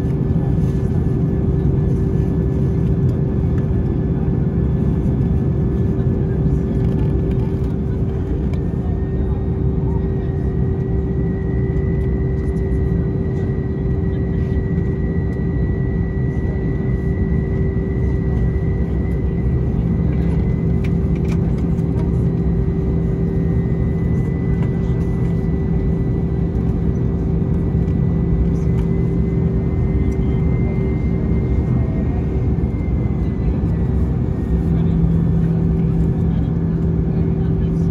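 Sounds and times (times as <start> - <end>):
constant whine: 0.0 - 37.9
engines idling low rumble: 0.0 - 37.9.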